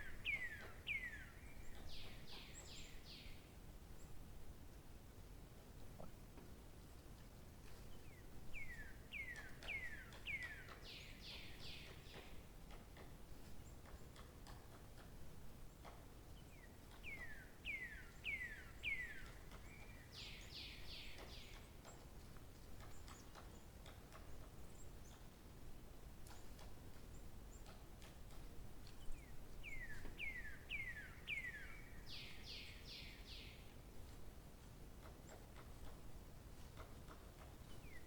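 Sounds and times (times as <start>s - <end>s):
songbird singing: 0.0s - 4.2s, 7.8s - 25.4s, 26.0s - 34.2s, 35.0s - 38.0s.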